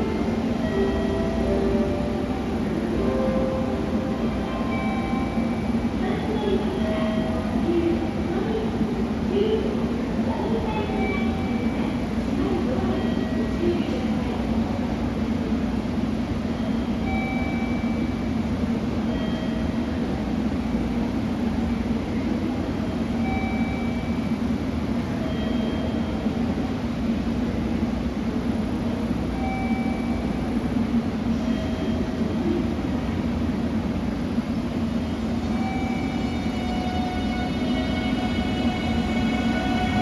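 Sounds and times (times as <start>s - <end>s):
train equipment humming: 0.0s - 40.0s.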